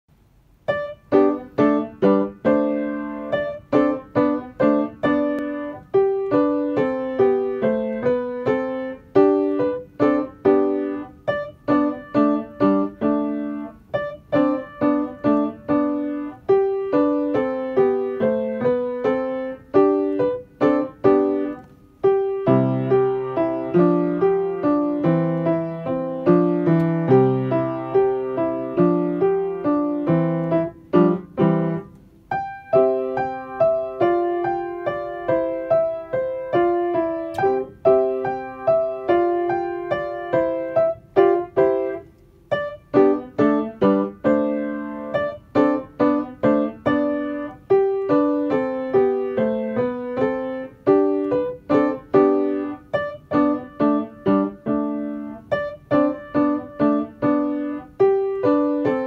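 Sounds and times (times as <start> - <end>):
upright piano playing: 0.4 - 59.0.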